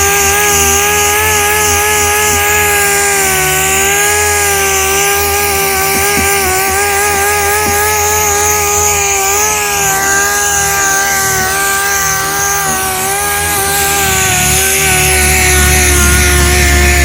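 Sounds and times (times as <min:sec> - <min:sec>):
power sander whining: 0:00.0 - 0:17.0.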